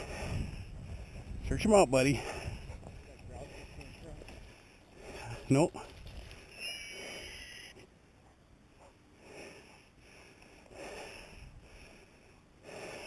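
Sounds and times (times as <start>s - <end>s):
faint breathing: 0.0s - 8.2s, 8.8s - 13.0s.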